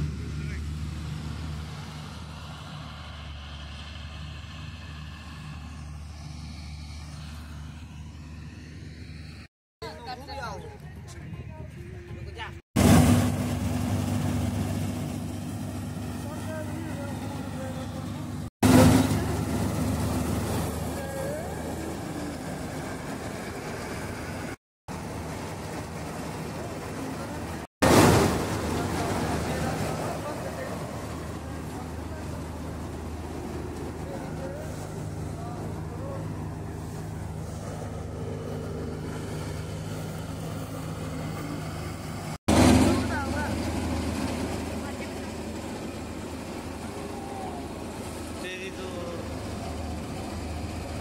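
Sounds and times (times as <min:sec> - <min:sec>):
combine harvester engine hum: 0:00.0 - 0:51.0.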